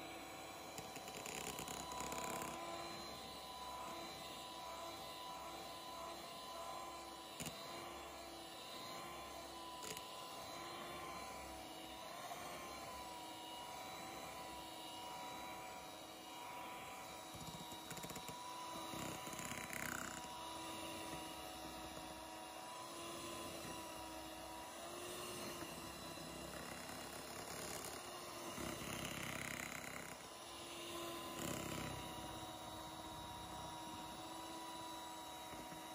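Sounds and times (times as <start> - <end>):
electric hand mixer whining: 0.0 - 35.9.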